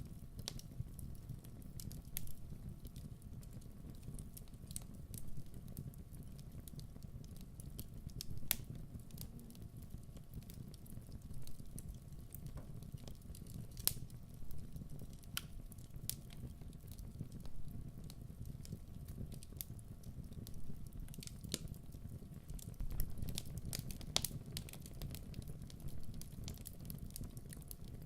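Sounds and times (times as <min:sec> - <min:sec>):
fire popping and snapping: 0:00.0 - 0:28.0
wood fire rumbling: 0:00.0 - 0:28.0.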